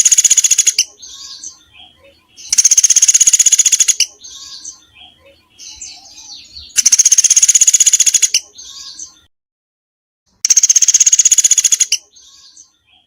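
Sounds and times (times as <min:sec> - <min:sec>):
songbird singing: 0:00.0 - 0:09.3, 0:10.3 - 0:13.0.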